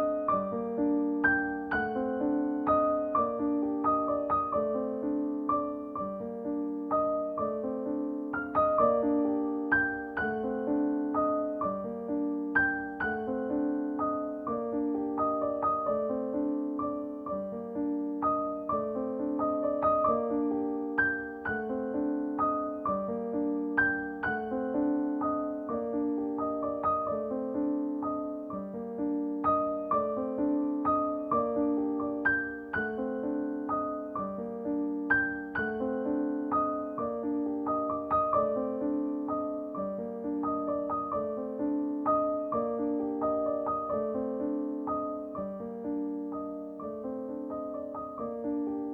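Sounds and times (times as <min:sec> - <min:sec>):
gentle piano music: 0:00.0 - 0:48.9.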